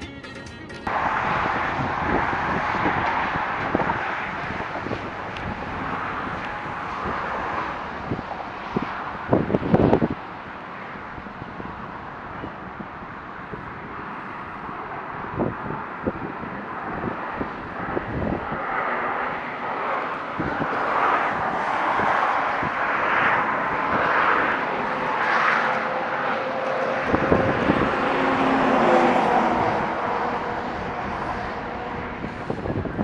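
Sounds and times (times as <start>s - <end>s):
steady rushing noise: 0.8s - 33.0s.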